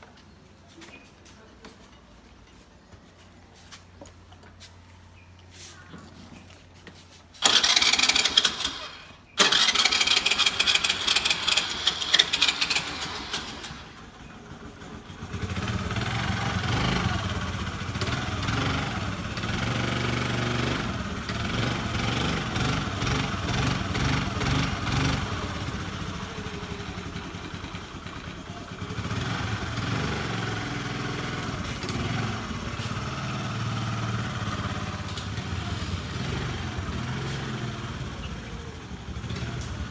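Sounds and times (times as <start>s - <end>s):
scooter engine cranking: 7.4s - 39.9s
scooter engine idling: 7.4s - 39.9s.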